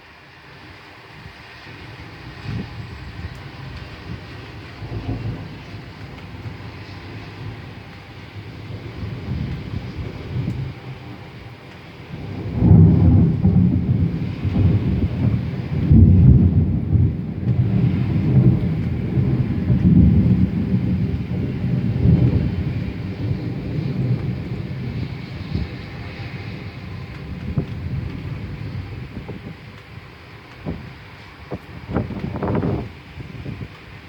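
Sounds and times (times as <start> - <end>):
thunder rumbling: 1.2 - 34.0.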